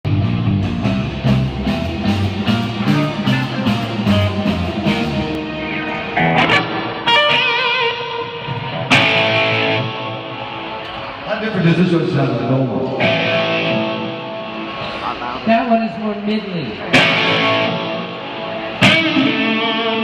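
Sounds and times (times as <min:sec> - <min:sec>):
guitar chords and vibrato notes: 0:00.1 - 0:15.5, 0:16.7 - 0:20.0.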